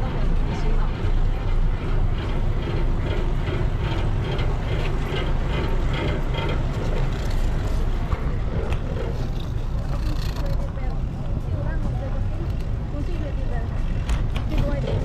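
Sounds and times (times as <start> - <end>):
boat engine rumbling: 0.0 - 15.0
rhythmic mechanical clatter: 0.0 - 15.0.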